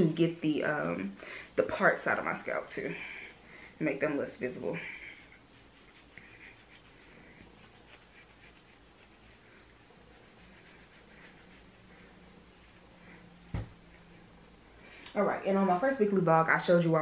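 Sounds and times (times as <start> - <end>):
fingers rubbing through hair: 0.0 - 14.6.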